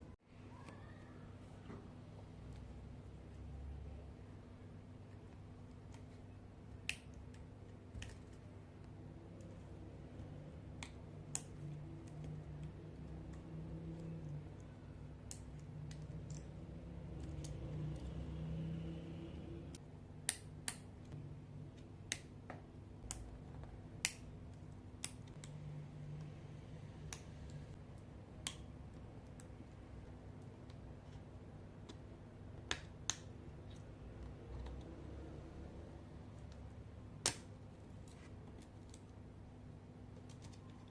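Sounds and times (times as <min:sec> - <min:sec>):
low steady hum: 0:00.0 - 0:40.9.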